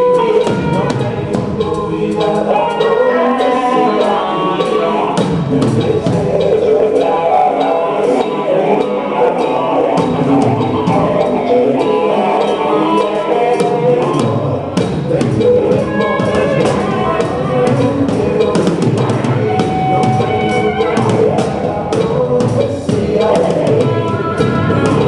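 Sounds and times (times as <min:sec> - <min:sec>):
drum kit with cymbals and snare: 0:00.0 - 0:25.0
rock guitar: 0:00.0 - 0:25.0.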